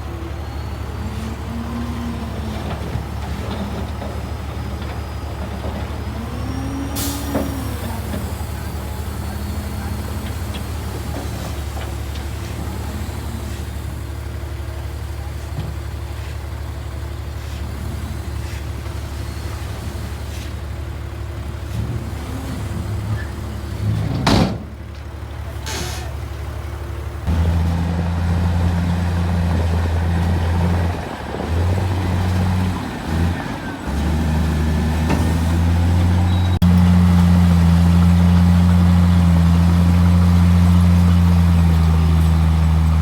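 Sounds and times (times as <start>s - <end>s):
heavy diesel engines droning: 0.0s - 43.0s.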